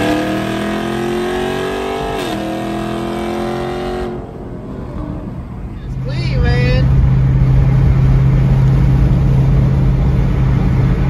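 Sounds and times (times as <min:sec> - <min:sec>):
car engine revving at full throttle: 0:00.0 - 0:11.0.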